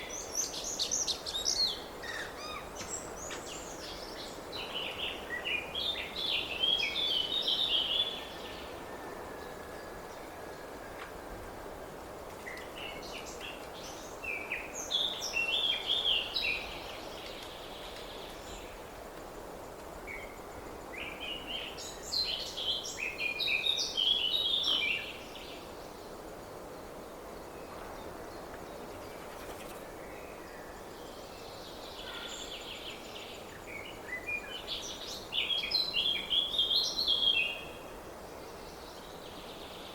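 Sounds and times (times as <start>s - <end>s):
songbird singing: 0.0s - 39.9s
steady background hiss: 0.0s - 39.9s.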